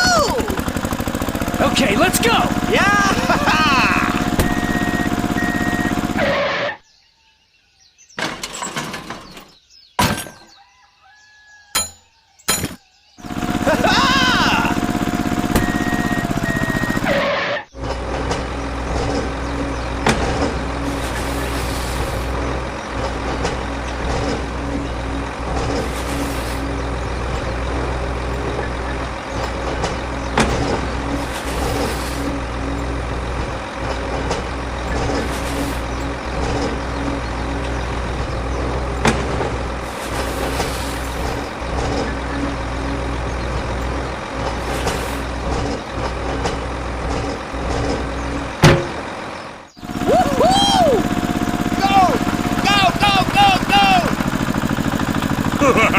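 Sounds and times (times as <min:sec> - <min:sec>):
vehicle engine running: 0:00.0 - 0:06.7, 0:13.0 - 0:55.9.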